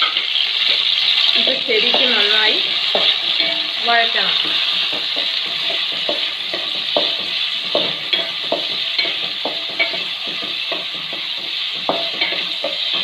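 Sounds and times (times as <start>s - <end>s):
spatula scraping and tapping pan: 0.0s - 13.0s
vegetables sizzling in hot oil: 0.0s - 13.0s.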